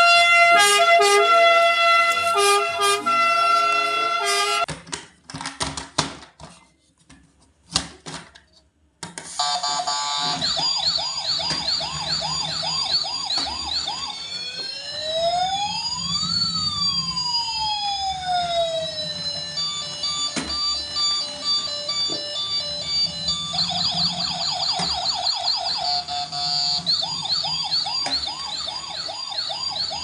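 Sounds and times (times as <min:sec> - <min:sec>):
toy electronic siren: 0:00.0 - 0:04.7, 0:09.4 - 0:30.0.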